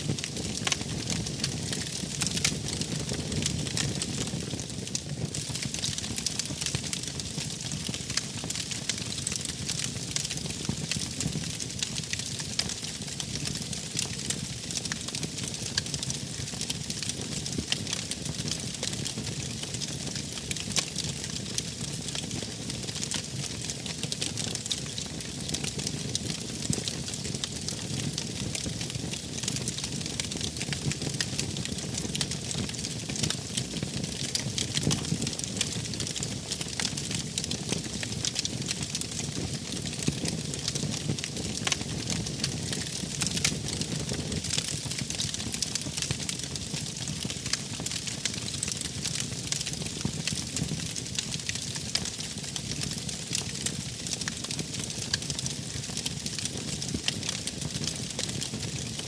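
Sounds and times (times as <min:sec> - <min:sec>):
low rumble of flames: 0:00.1 - 0:59.0
wood fire crackling: 0:00.1 - 0:59.0.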